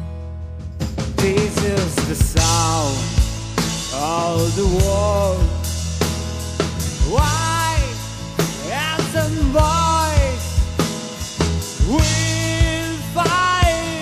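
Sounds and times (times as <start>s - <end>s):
rock song with singing: 0.8s - 14.0s.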